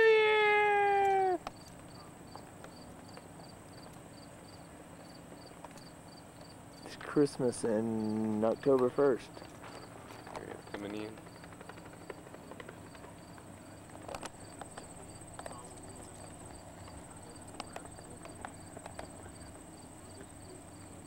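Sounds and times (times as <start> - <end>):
continuous high trill: 0.0 - 21.0
insects chirping: 0.8 - 21.0.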